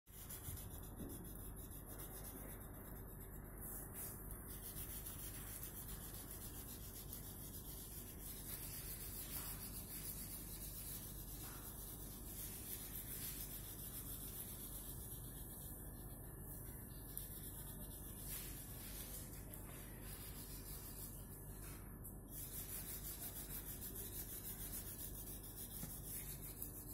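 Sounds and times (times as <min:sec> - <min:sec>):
pencil shading on paper: 0:00.1 - 0:26.9.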